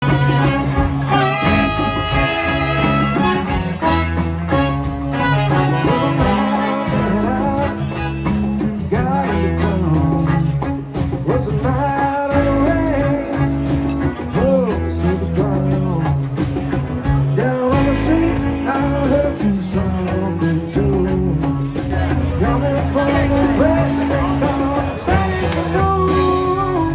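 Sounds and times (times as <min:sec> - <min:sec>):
bass: 0:00.0 - 0:26.9
bending melody line: 0:00.0 - 0:26.9
guitar: 0:00.0 - 0:26.9
steady beat: 0:00.0 - 0:26.9.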